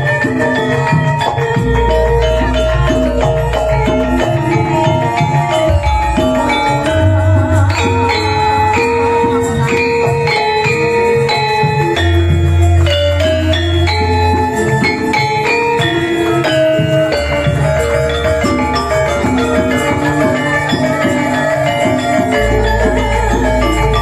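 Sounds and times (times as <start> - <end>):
gamelan metallophones ringing: 0.0 - 24.0.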